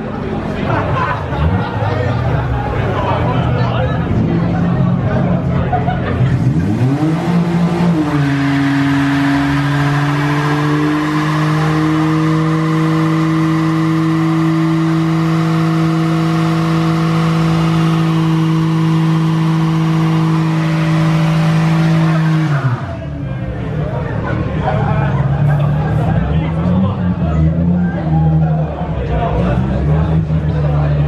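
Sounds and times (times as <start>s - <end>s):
car engine at high revs: 4.0s - 31.0s.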